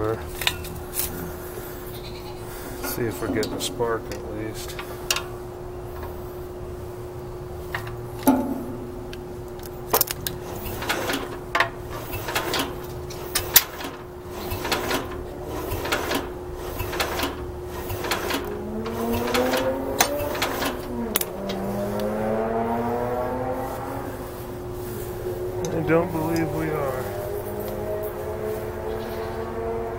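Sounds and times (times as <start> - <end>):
starter-generator whine: 0.0 - 29.9
steady hum: 0.0 - 29.9.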